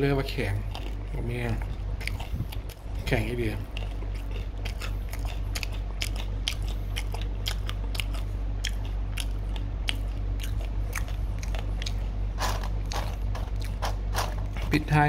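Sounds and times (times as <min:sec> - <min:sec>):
steady low hum: 0:00.0 - 0:15.0
chewing crispy chips: 0:00.5 - 0:14.9.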